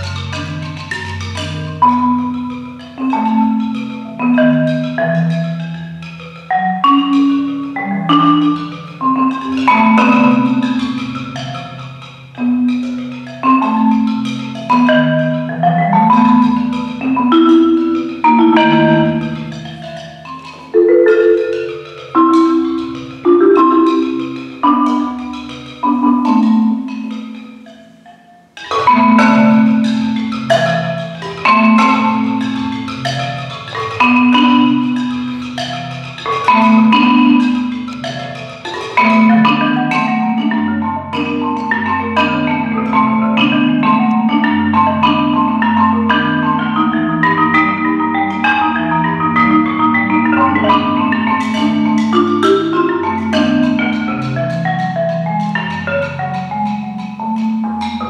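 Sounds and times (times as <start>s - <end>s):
marimba played with mallets: 0.0s - 58.0s.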